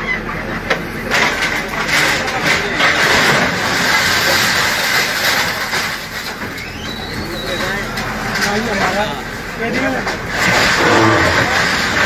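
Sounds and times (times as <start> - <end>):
diesel engine running: 0.0 - 12.0
falling rubble crashing: 0.2 - 12.0.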